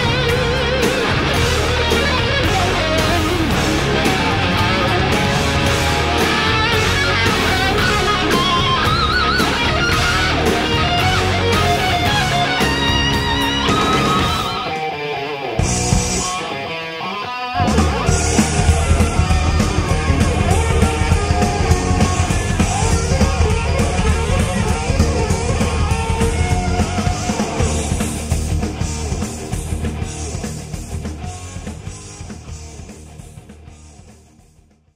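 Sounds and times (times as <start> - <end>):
heavy rock music: 0.0 - 34.9.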